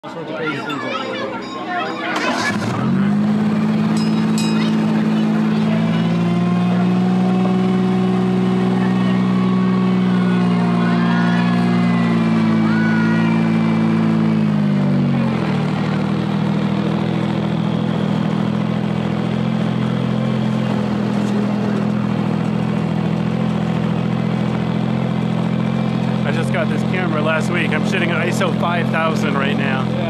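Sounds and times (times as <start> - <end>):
miniature locomotive engine droning: 0.0 - 30.0.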